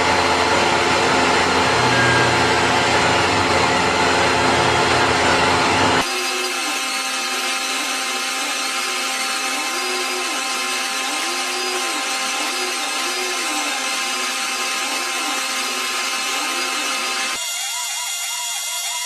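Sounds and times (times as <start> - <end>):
machine tool running loudly: 0.0 - 19.0
machine with wavering tone: 0.0 - 19.0.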